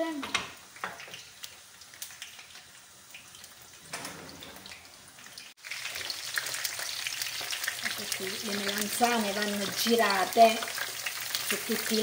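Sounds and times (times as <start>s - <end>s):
food sizzling in pans: 0.0s - 12.0s.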